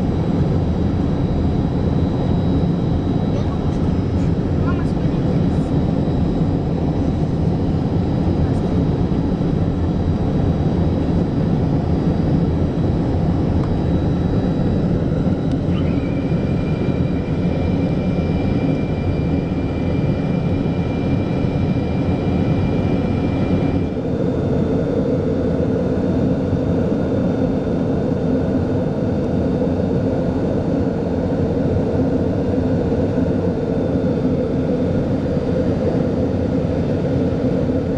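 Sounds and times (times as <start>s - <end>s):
jet engines in aircraft cabin: 0.0s - 37.9s.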